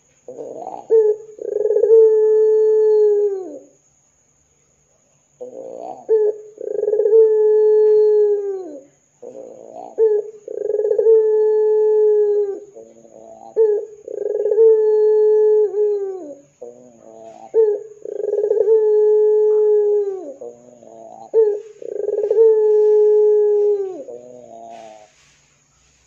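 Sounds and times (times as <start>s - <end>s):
dove cooing: 0.0s - 3.8s, 5.4s - 26.0s.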